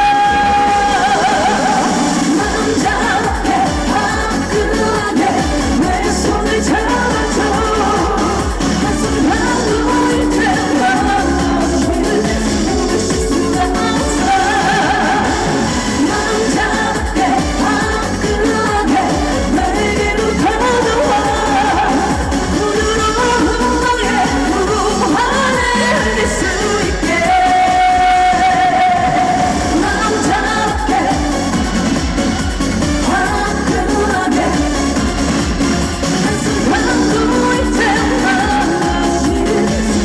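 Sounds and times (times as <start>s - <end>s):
pop accompaniment with beat: 0.0s - 40.0s
woman singing: 0.0s - 40.0s.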